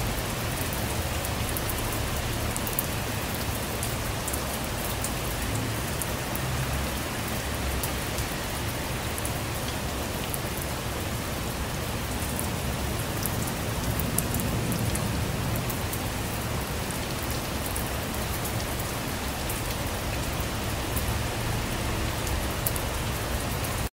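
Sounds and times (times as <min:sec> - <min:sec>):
rain falling on a surface: 0:00.0 - 0:23.9.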